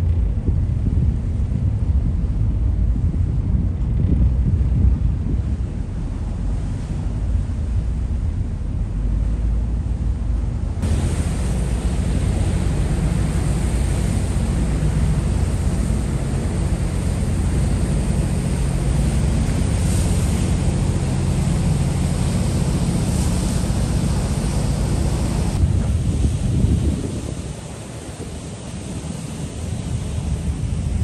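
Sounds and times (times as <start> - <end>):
boat engine rumble: 0.0 - 31.0
wind buffeting microphone: 0.0 - 31.0
rushing water: 5.0 - 31.0.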